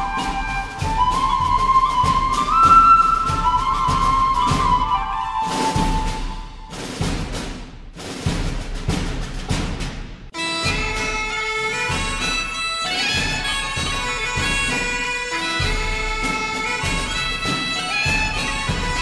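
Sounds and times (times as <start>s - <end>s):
music with held notes and beat: 0.0s - 6.7s, 10.3s - 19.0s.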